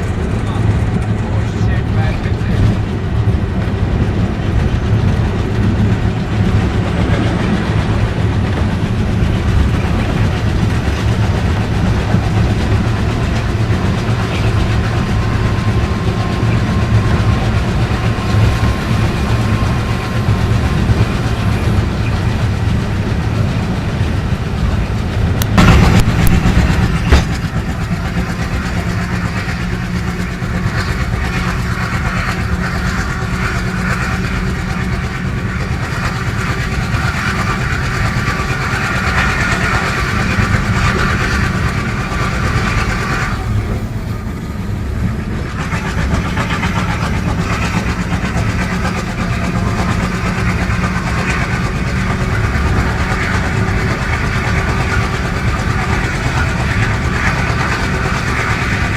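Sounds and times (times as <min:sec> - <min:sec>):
diesel locomotive engine running: 0:00.0 - 0:58.9.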